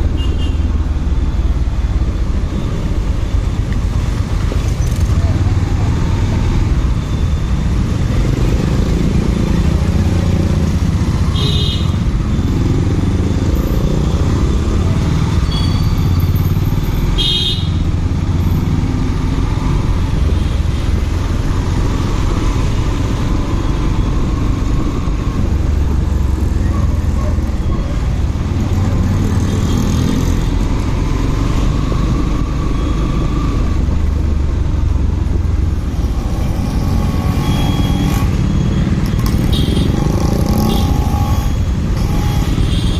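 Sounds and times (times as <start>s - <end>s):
wind and road noise: 0.0s - 42.9s
motorcycle engine: 7.8s - 42.9s.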